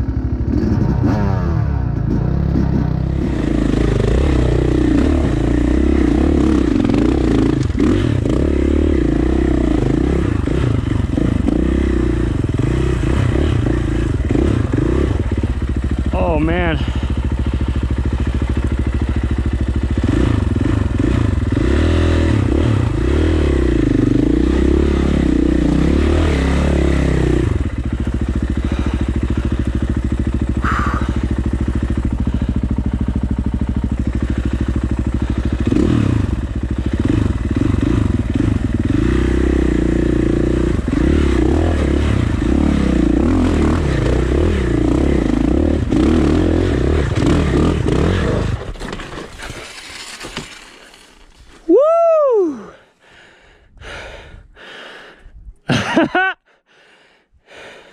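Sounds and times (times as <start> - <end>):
dirt bike engine revving: 0.0 - 51.6.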